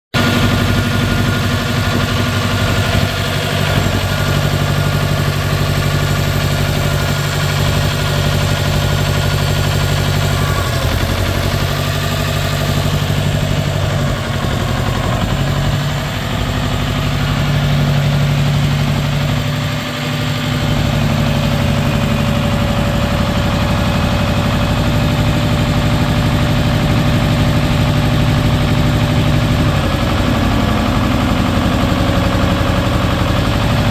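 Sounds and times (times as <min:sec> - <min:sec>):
tractor diesel engine idling: 0:00.2 - 0:33.9.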